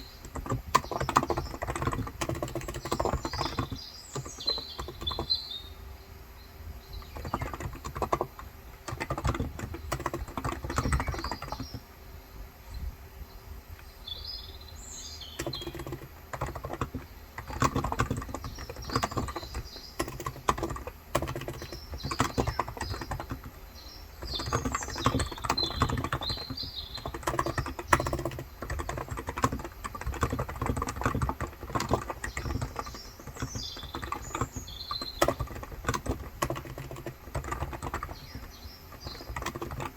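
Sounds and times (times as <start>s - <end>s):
keyboard typing: 0.0s - 5.4s, 6.9s - 11.8s, 15.2s - 39.9s
birds chirping: 0.0s - 39.9s.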